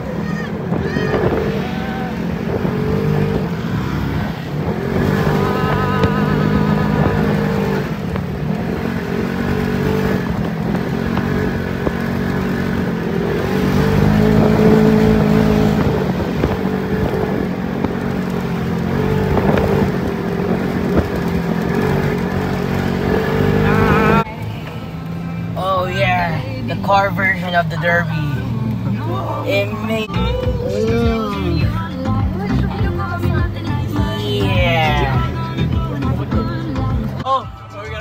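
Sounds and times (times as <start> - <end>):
vehicle engine revving: 0.0 - 38.0.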